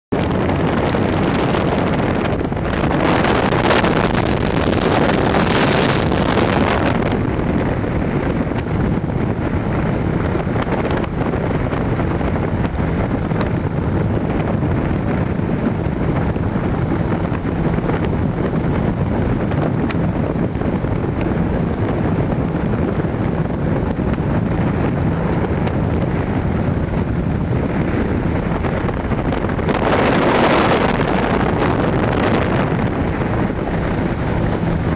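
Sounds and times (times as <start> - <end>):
outboard motor running: 0.1 - 34.9
water rushing past hull: 0.1 - 34.9
wind buffeting microphone: 0.1 - 34.9.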